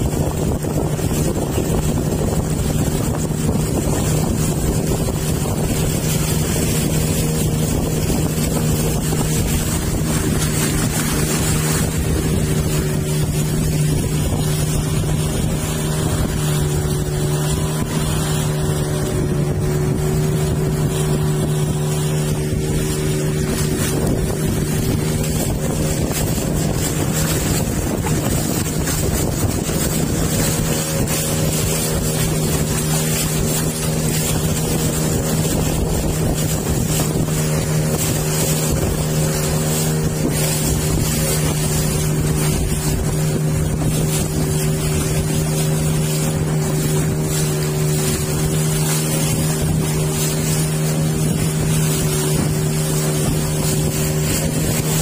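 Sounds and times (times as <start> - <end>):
boat engine drone: 0.0 - 55.0
water rushing past hull: 0.0 - 55.0
wind on microphone: 0.0 - 55.0.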